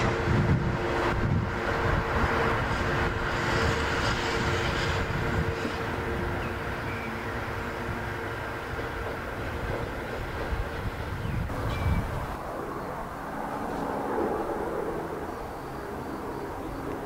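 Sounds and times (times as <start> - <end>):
locomotive humming tone: 0.0 - 17.0
wheel and rail noise: 0.0 - 17.0.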